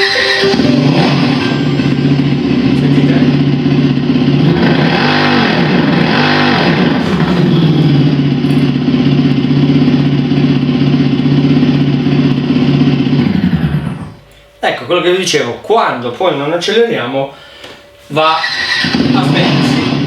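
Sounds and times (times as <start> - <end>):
synthetic motorcycle engine sound: 0.0 - 14.3, 18.2 - 20.0.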